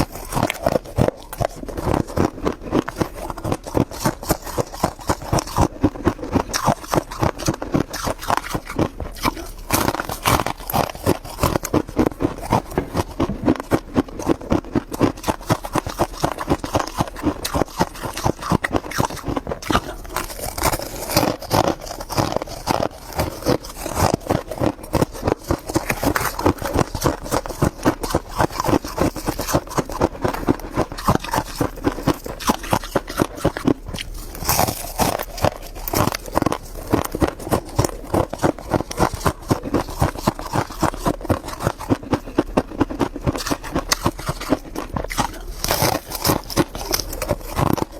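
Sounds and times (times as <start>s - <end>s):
chewing crunchy frost: 0.0s - 47.9s.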